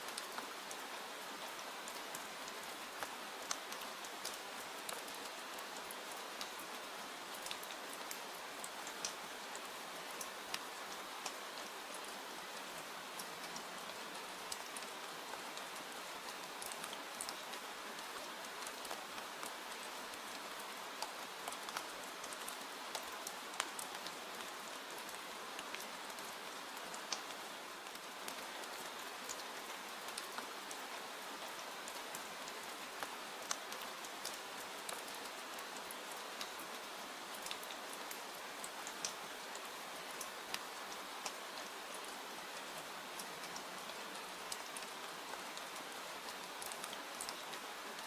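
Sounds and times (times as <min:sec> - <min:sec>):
rain hiss: 0:00.0 - 0:48.0.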